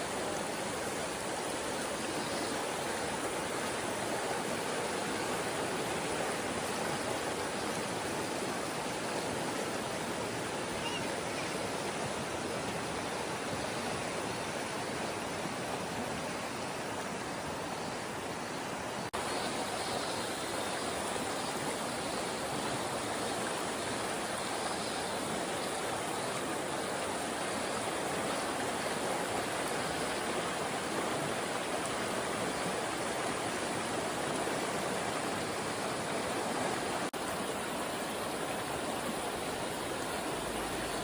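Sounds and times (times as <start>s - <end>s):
stream pouring over rocks: 0.0s - 41.0s.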